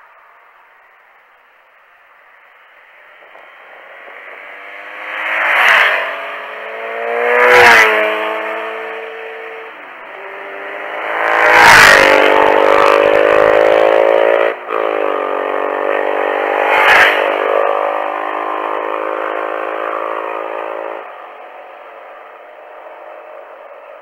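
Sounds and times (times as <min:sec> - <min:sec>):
motorcycle engine accelerating: 0:03.2 - 0:24.0.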